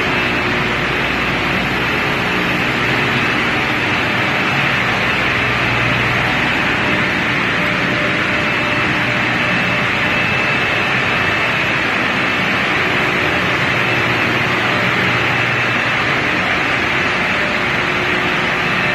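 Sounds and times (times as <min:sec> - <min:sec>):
chiller machine noise: 0:00.0 - 0:18.9
low hum: 0:00.0 - 0:18.9.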